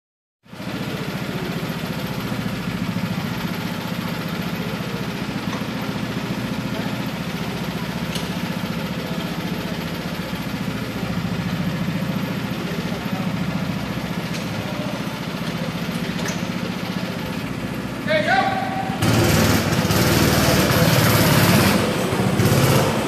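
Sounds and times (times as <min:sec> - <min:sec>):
go-kart engine idling: 0:00.5 - 0:23.0.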